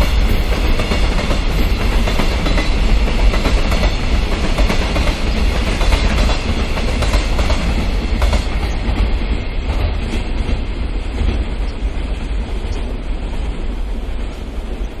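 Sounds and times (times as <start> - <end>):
freight train wagons rumbling: 0.0 - 15.0.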